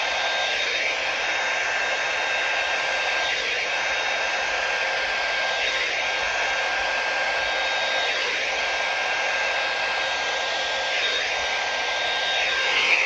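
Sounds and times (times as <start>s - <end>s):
hairdryer blowing: 0.0s - 13.0s.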